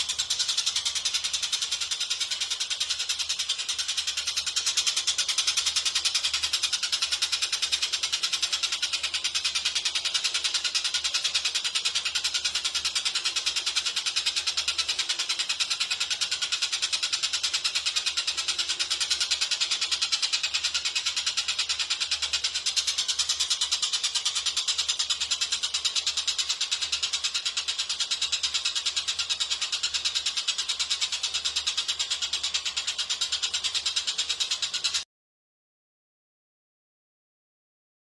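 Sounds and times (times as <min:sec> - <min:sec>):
bird rattling call: 0:00.0 - 0:35.0.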